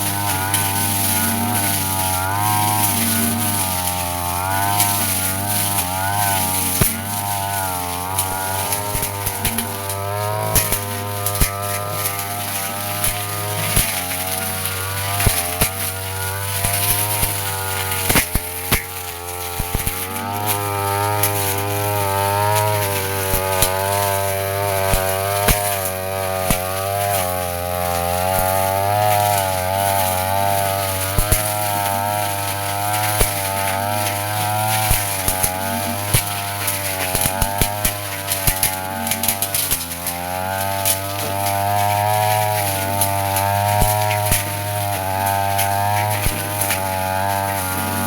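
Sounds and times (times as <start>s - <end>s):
blade ticking against grass: 0.0s - 48.0s
brush cutter engine running: 0.0s - 48.0s.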